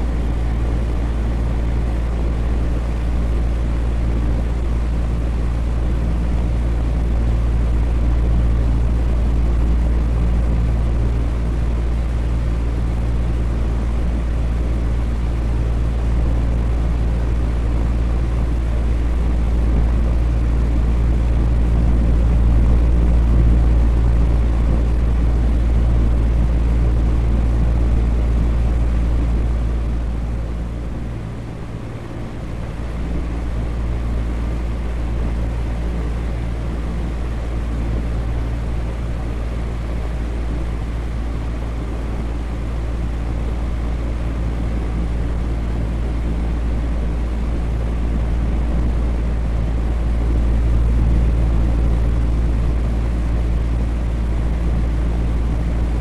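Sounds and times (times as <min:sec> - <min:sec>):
electric fan whirring: 0:00.0 - 0:56.0.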